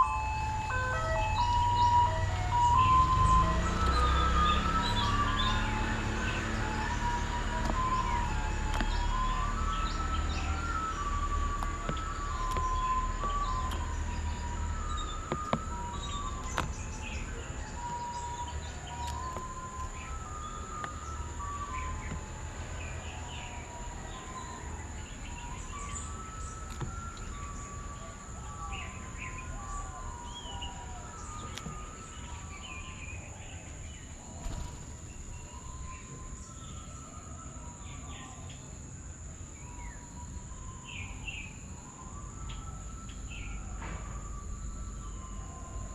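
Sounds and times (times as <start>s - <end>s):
birds chirping and calling: 0.0s - 37.0s
continuous high-pitched tone: 0.0s - 45.9s.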